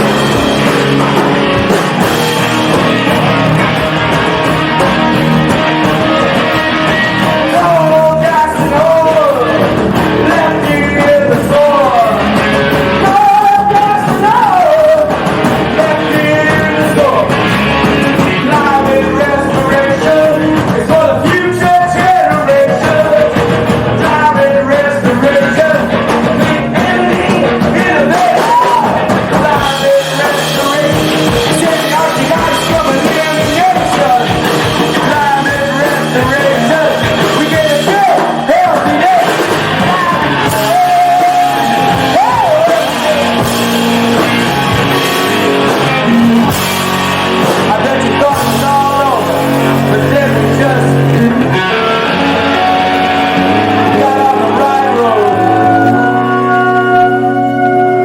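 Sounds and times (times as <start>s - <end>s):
lead melody line bending: 0.0s - 58.0s
rock band playing: 0.0s - 58.0s.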